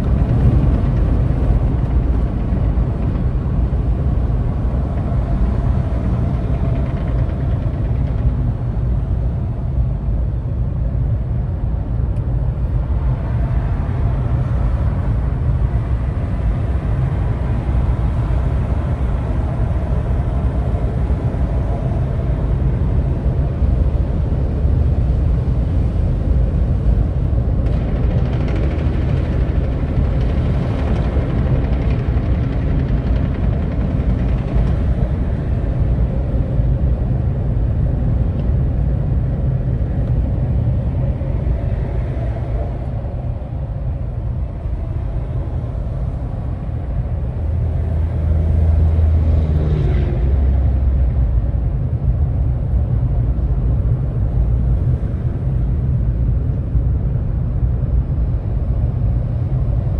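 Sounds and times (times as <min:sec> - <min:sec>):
deep hum: 0:00.0 - 0:59.9
vehicle engine and road noise: 0:00.0 - 0:59.9.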